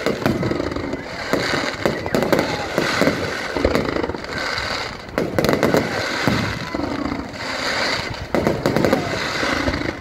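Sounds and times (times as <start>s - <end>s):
fireworks bursting with crackling: 0.0s - 10.0s.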